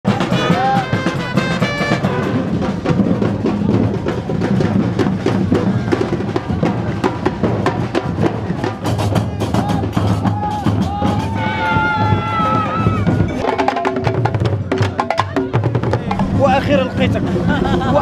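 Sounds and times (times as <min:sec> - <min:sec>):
drum-heavy music: 0:00.0 - 0:18.0.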